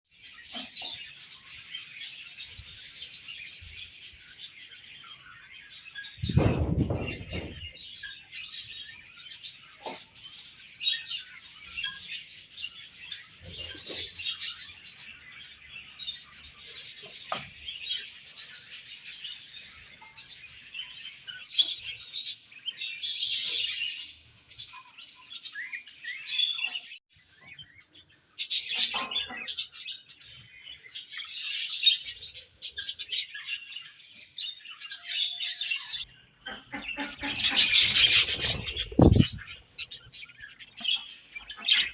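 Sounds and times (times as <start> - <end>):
budgerigars chirping and warbling: 0.2 - 41.9.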